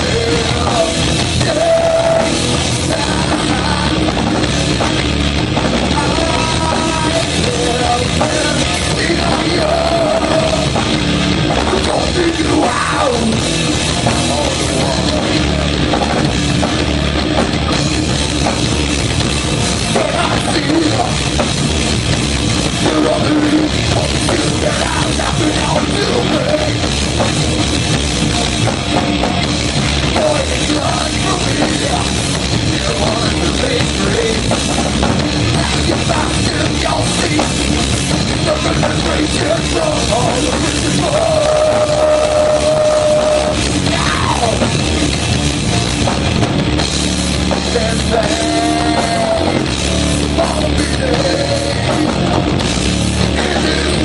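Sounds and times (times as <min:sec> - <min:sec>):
bass guitar: 0:00.0 - 0:54.0
distorted electric guitar: 0:00.0 - 0:54.0
drum kit: 0:00.0 - 0:54.0.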